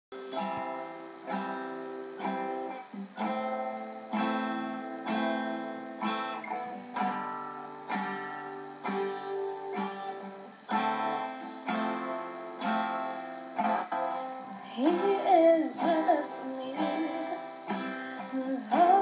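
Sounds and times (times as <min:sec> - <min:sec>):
acoustic guitar strummed chords: 0:00.1 - 0:19.0.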